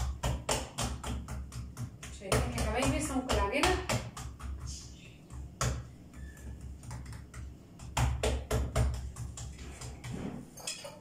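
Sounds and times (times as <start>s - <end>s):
dough patted by hand: 0.0s - 10.5s.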